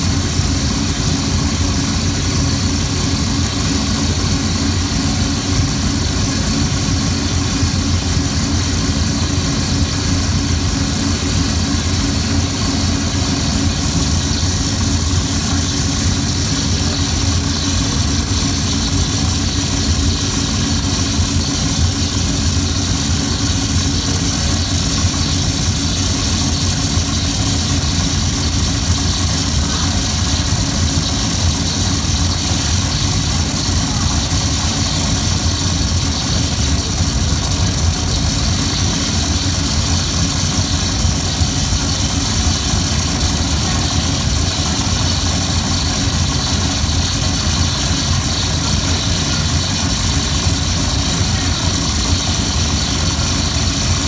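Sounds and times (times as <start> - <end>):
electronic noise drone: 0.0 - 54.0.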